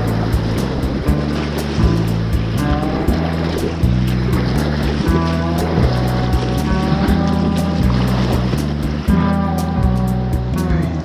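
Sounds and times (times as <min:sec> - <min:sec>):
bass line: 0:00.0 - 0:11.0
light ticking beat: 0:00.0 - 0:11.0.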